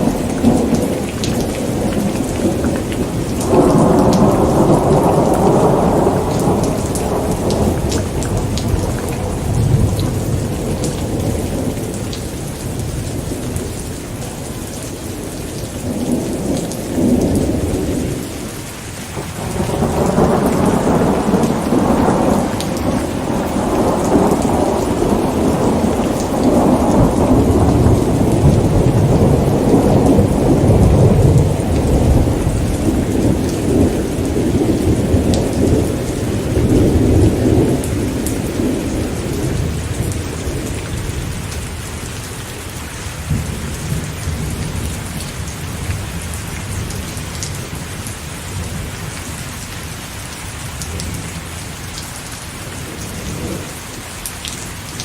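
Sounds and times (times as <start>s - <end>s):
thunder rumbling: 0.0s - 18.6s, 19.2s - 42.6s, 43.2s - 49.4s, 52.7s - 53.9s
rain falling: 0.0s - 55.0s.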